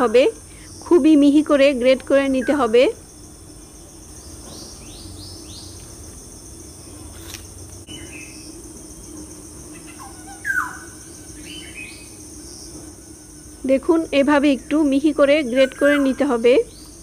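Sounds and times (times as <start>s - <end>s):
birds chirping: 0.0s - 17.0s
high insect drone: 0.0s - 17.0s
low steady hum: 0.0s - 17.0s.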